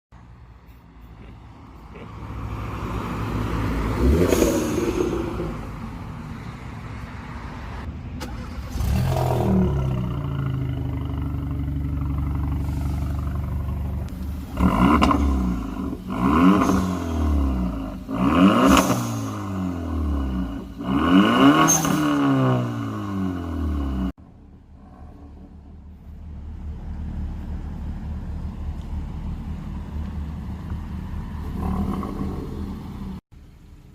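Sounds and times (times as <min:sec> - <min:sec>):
car engine revving: 0:01.9 - 0:06.1, 0:07.7 - 0:33.2.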